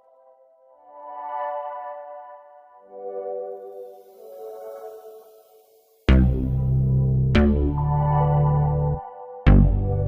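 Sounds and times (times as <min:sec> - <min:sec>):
ambient synthesizer chords: 0:00.0 - 0:10.0.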